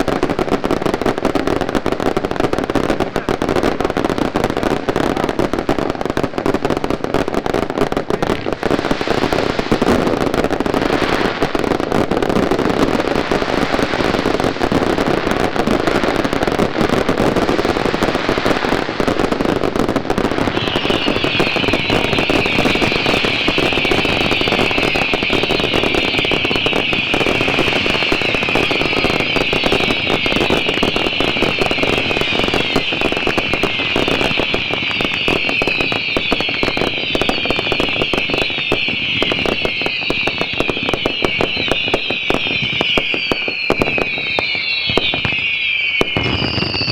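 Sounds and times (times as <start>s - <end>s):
firecrackers crackling and banging: 0.0s - 46.9s
fireworks shrill whistling: 0.0s - 46.9s.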